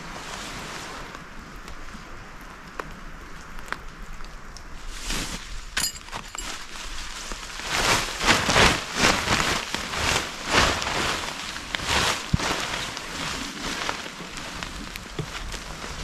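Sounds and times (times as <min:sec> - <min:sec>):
tarp flapping and swishing: 0:00.0 - 0:02.0, 0:04.7 - 0:16.0
rain dripping: 0:00.0 - 0:16.0.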